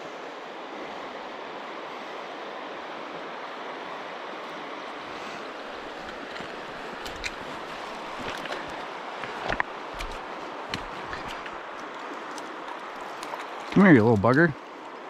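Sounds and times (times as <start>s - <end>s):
river current rushing: 0.0s - 15.0s.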